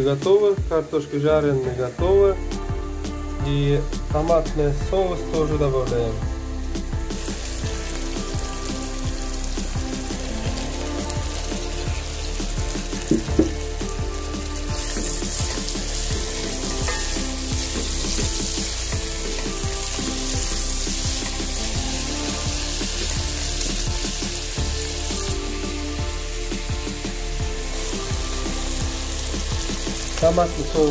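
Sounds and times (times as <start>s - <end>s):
background music: 0.0s - 30.9s
onions sizzling in oil: 0.1s - 30.9s.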